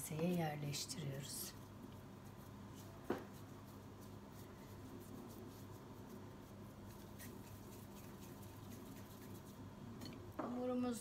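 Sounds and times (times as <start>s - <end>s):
hands rubbing dough: 0.0s - 9.8s
low steady hum: 0.0s - 11.0s.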